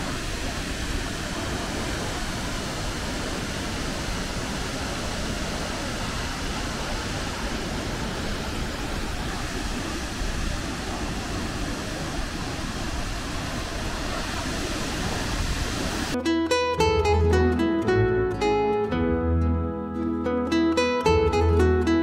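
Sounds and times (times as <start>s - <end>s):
waterfall rushing: 0.0s - 18.4s.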